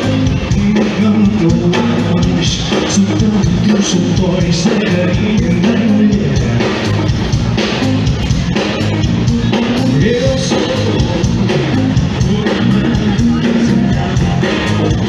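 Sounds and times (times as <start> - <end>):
man singing: 0.0 - 6.9, 9.2 - 15.0
live band playing pop-rock: 0.0 - 15.0
regular drum beat: 0.0 - 15.0.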